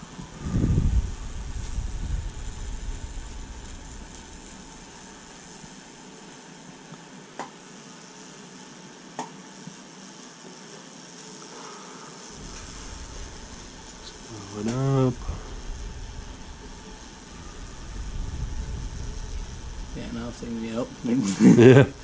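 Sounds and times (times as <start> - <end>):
sharp electrical cracks: 0.0 - 22.0
wood sizzling hiss: 0.0 - 22.0.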